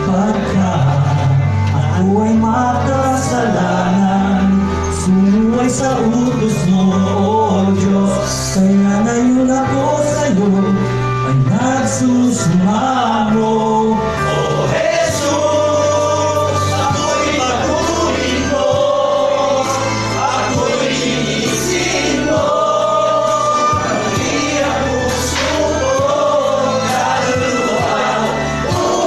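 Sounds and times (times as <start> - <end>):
instrumental accompaniment: 0.0 - 29.0
choir singing a hymn: 2.0 - 8.8, 11.3 - 29.0.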